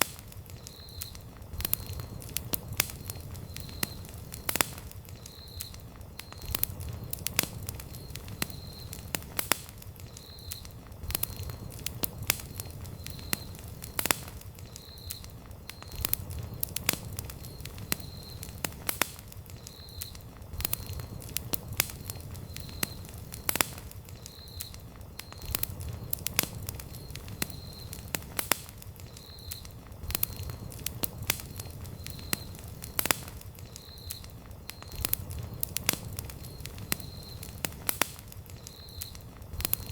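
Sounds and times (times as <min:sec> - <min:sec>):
campfire crackles and pops: 0:00.0 - 0:39.9
low rumble of flames: 0:00.0 - 0:39.9.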